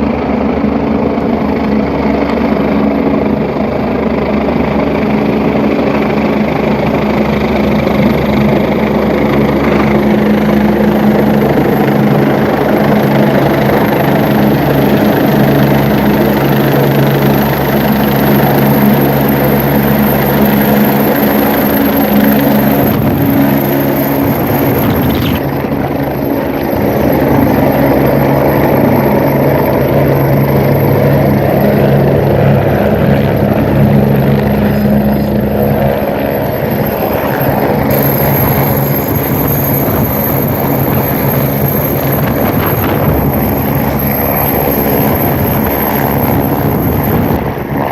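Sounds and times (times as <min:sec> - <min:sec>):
helicopter rotor drone: 0:00.0 - 0:47.9
turbine engine whine: 0:00.0 - 0:47.9.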